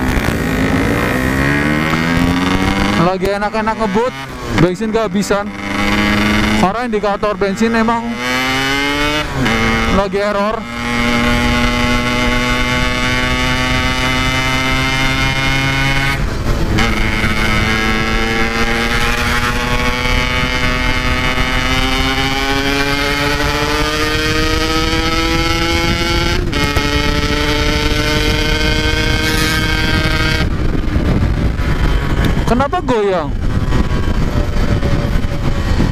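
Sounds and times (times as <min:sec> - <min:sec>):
two-stroke motorcycle engine running: 0:00.0 - 0:35.9.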